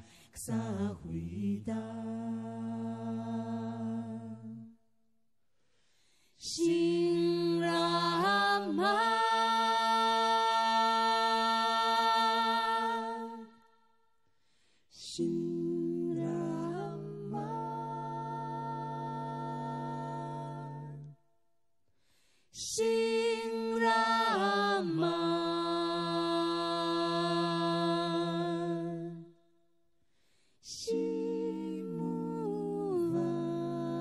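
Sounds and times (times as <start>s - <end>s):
a cappella group singing harmony: 0.0s - 4.9s, 6.3s - 21.3s, 22.2s - 29.5s, 30.2s - 34.0s.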